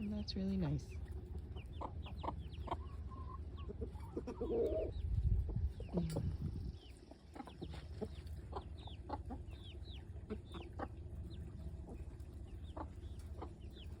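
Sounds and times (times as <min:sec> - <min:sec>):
chicks peeping: 0:00.0 - 0:14.0
hen clucking: 0:00.0 - 0:14.0
steady low rumble: 0:00.0 - 0:14.0.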